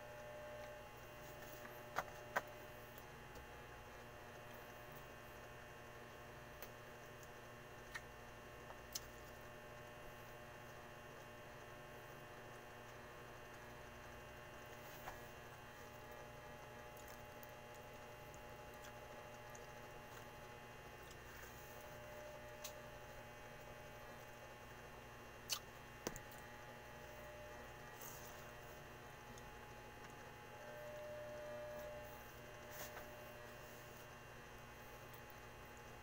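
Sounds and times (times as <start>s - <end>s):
steady electrical hum: 0.0s - 36.0s.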